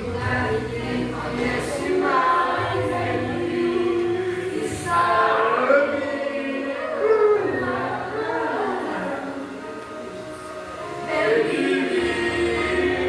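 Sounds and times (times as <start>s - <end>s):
voices singing gospel song: 0.0s - 13.0s.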